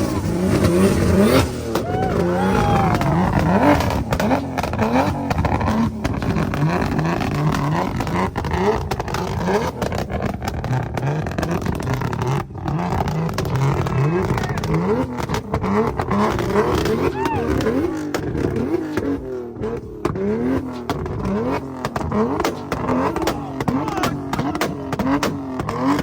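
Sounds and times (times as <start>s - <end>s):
car engine revving: 0.0s - 26.0s
exhaust pops and cracks: 0.1s - 26.0s.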